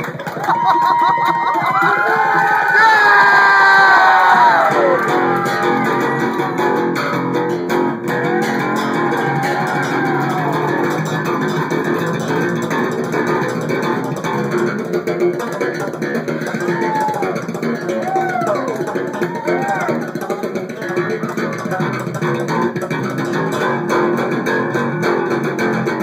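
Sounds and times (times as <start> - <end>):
electric bass guitar solo: 1.7 - 26.0.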